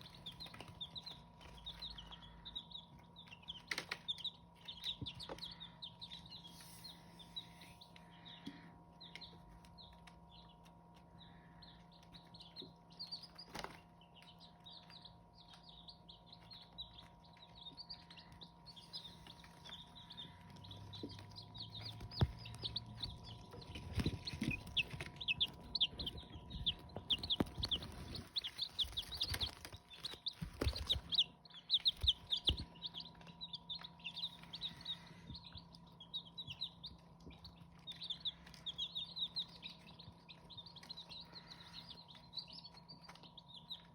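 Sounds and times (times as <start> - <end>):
chicks peeping: 0.0 - 43.9
faint steady hum: 0.0 - 43.9.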